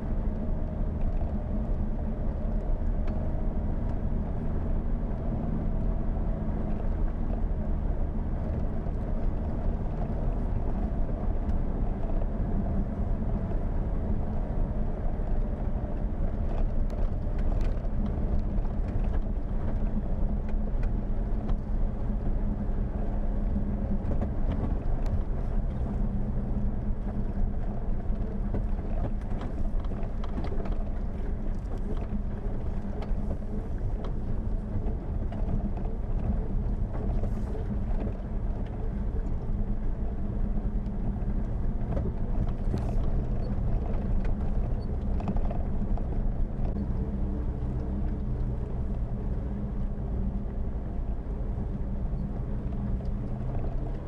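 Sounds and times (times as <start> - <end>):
vehicle engine drone: 0.0 - 54.0.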